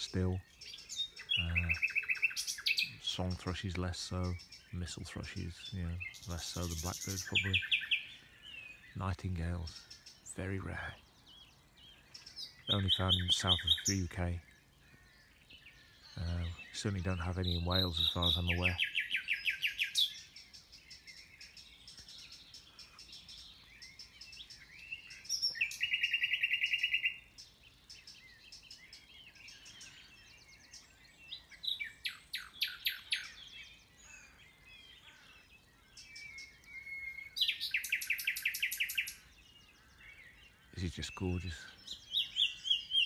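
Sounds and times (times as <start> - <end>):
faint bird calls: 0.0 - 43.0
nightingale singing: 0.0 - 43.0.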